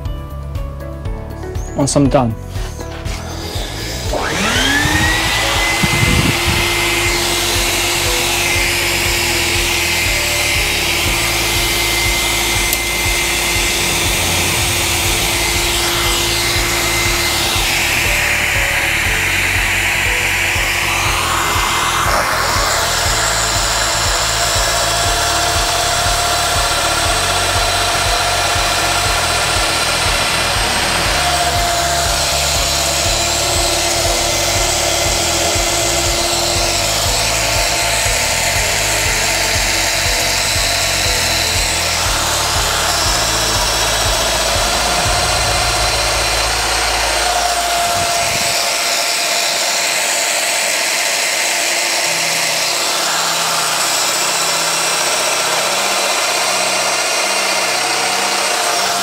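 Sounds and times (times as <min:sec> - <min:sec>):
background music: 0:00.0 - 0:59.0
power joiner motor whine: 0:01.9 - 0:59.0.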